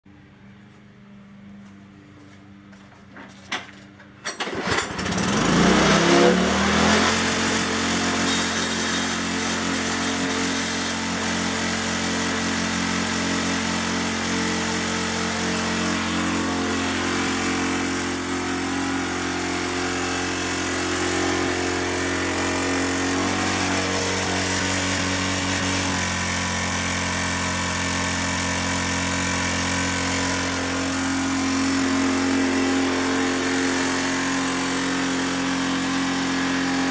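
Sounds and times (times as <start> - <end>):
petrol lawn mower engine: 0.1 - 36.9.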